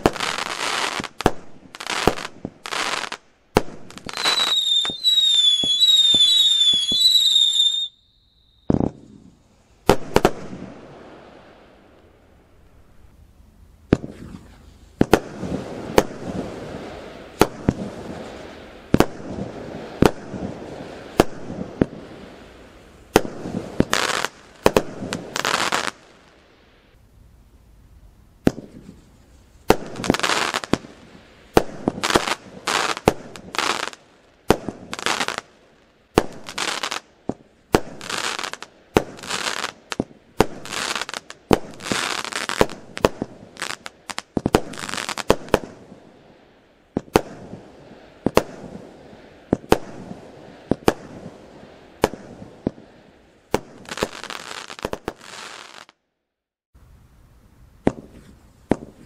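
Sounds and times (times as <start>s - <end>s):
fireworks bangs: 0.0s - 11.6s, 13.9s - 26.3s, 28.4s - 35.5s, 36.1s - 46.1s, 46.9s - 56.0s, 57.8s - 59.0s.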